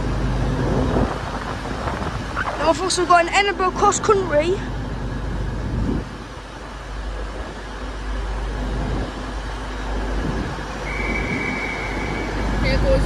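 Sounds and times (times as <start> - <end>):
low rumble of trains: 0.0 - 13.0.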